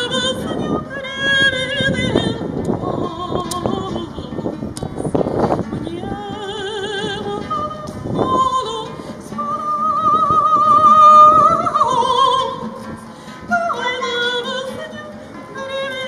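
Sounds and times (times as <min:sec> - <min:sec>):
strummed acoustic guitar: 0:00.0 - 0:16.0
woman singing with vibrato: 0:00.0 - 0:16.0.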